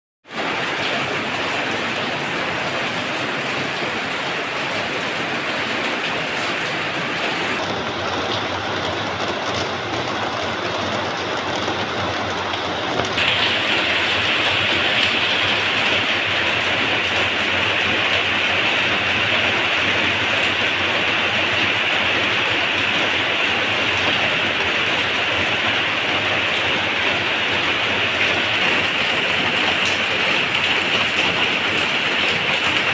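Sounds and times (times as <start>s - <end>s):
steady rain falling: 0.2s - 32.9s.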